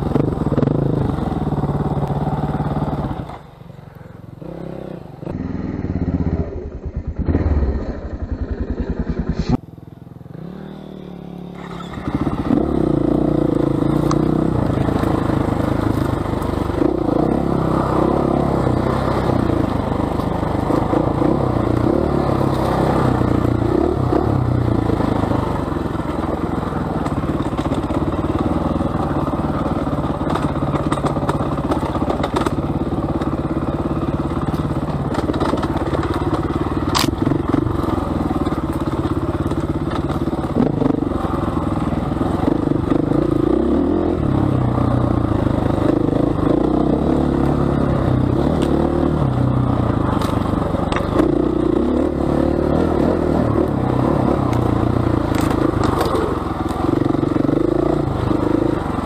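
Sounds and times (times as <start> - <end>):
motorcycle engine revving: 0.0 - 59.0
motorcycle clattering over bumps: 11.5 - 59.0.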